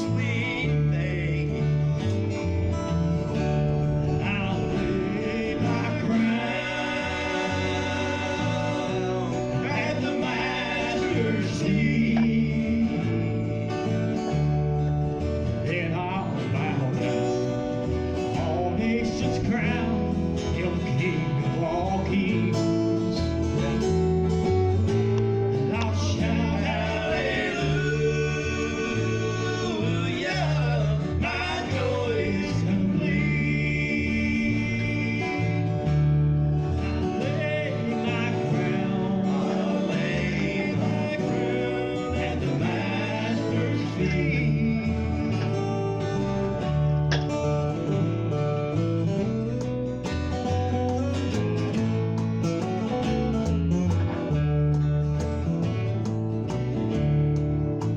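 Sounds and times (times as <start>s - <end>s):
country gospel instrumental: 0.0s - 57.9s.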